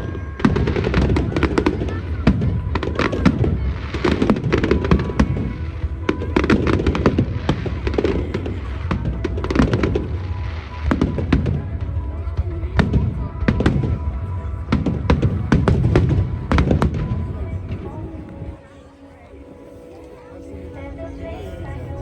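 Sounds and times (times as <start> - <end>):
fireworks bangs and crackles: 0.0 - 18.2
music playing: 0.0 - 22.0.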